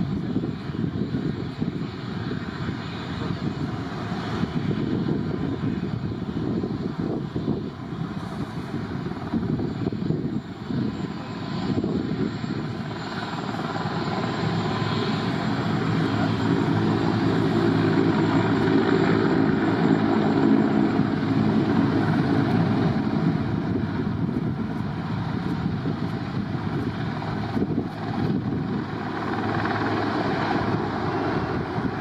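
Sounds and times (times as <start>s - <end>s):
aircraft engine noise: 0.0s - 32.0s.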